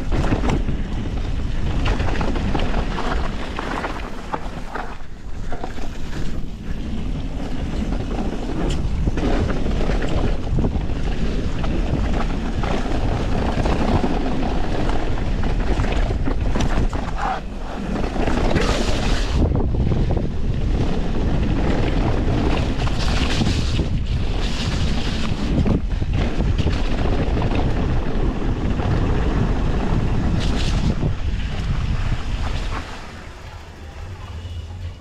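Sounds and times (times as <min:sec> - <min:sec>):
tyres rattling over dirt trail: 0:00.0 - 0:35.0
wind rushing over microphone: 0:00.0 - 0:35.0.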